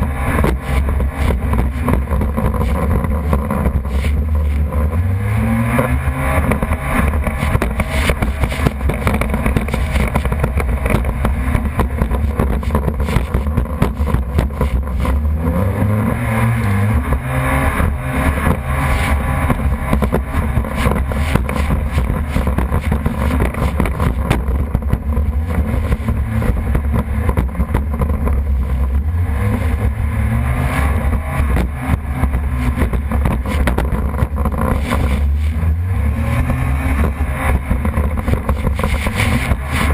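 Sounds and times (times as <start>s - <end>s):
jet ski engine running: 0.0s - 39.9s
steady rushing noise: 0.0s - 39.9s.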